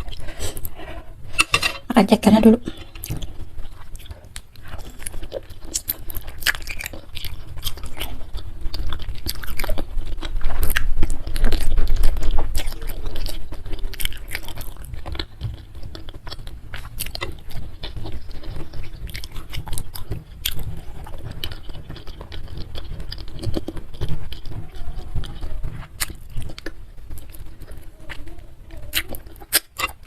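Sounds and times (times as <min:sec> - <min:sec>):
chewing with wet smacking: 0:02.6 - 0:30.0.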